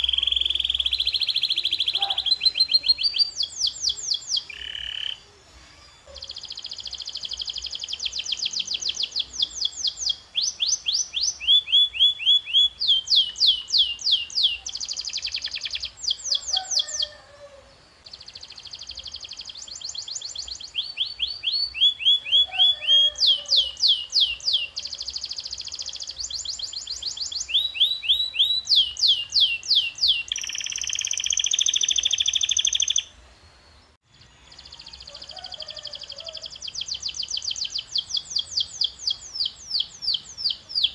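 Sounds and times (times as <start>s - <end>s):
canary singing trilled song: 0.0s - 17.2s, 18.1s - 33.1s, 34.5s - 40.9s.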